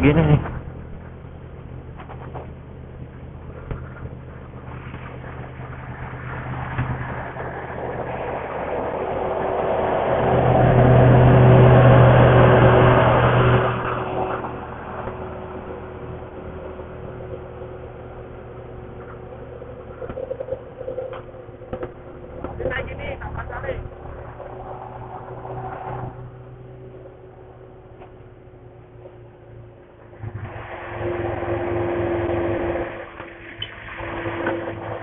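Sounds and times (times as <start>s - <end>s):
motorcycle engine humming: 0.0s - 35.0s
road and wind noise: 0.0s - 35.0s.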